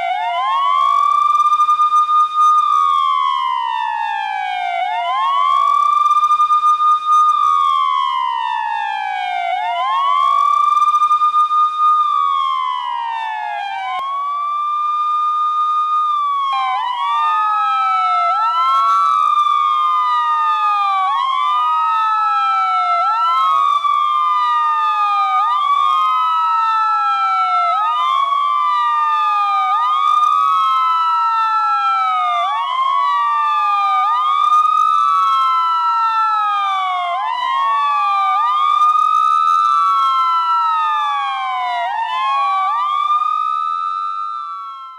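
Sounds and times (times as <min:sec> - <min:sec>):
police siren ringtone wailing: 0:00.0 - 0:44.9.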